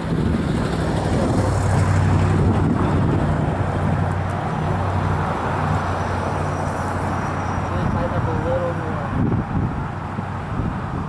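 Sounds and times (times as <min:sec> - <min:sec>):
rushing noise: 0:00.0 - 0:11.0
vehicle engine humming: 0:00.0 - 0:11.0.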